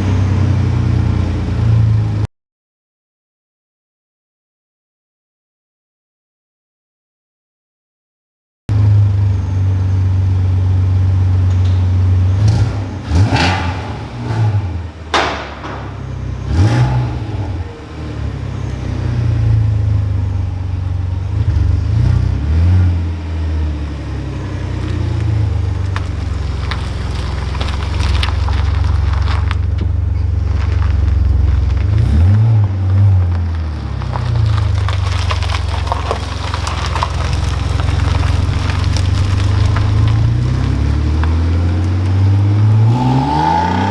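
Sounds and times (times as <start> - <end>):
car engine idling and revving: 0.0 - 2.3, 8.7 - 43.9.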